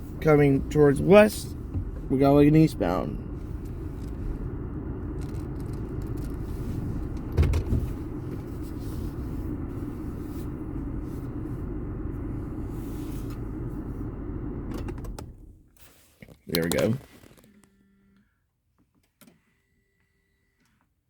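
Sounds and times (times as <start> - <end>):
car road and engine rumble: 0.0 - 17.4.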